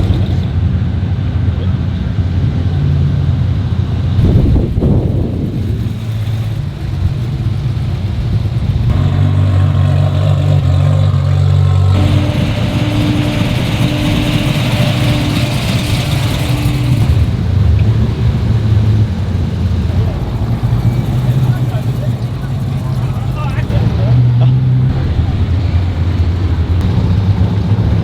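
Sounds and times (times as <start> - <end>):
car engine running: 0.0 - 0.7, 3.2 - 28.0.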